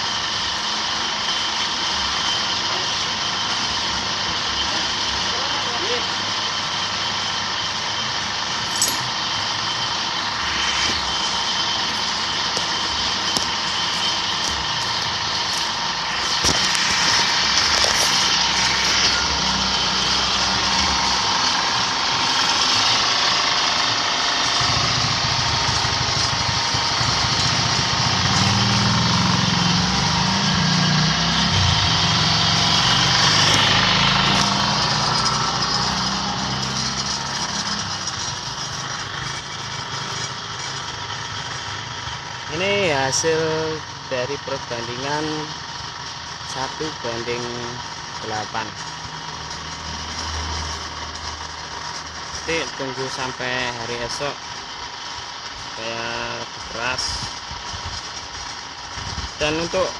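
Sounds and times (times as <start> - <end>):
block press machine running: 0.0 - 59.9.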